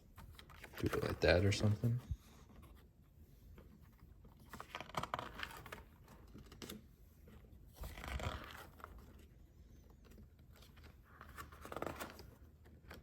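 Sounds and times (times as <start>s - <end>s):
cardboard and wrapping rustling: 0.0s - 13.0s.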